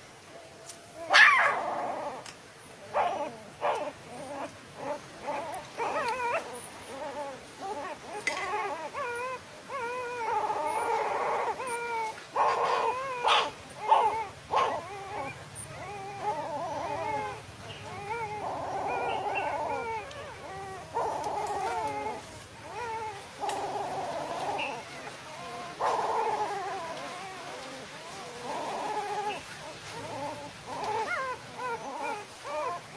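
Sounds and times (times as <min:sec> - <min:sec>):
dogs whining: 0:01.0 - 0:32.9
dogs yelping: 0:01.0 - 0:32.9.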